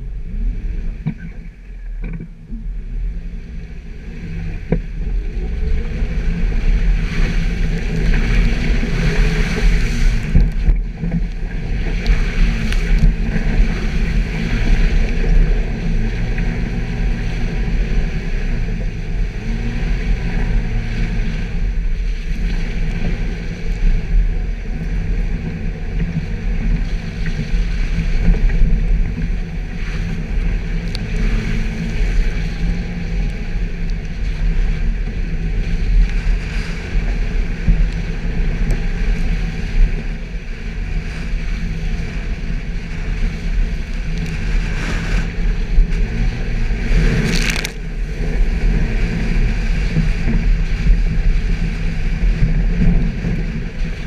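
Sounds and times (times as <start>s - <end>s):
car engine running under load: 0.0s - 54.0s.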